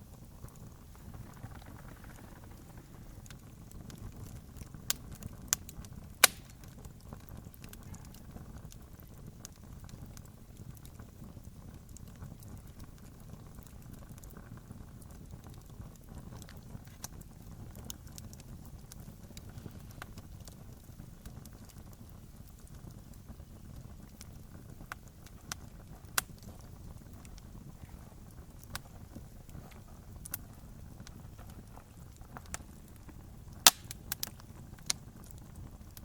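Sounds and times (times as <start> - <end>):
campfire crackling: 0.0 - 36.0
sharp fire pops: 0.0 - 36.0.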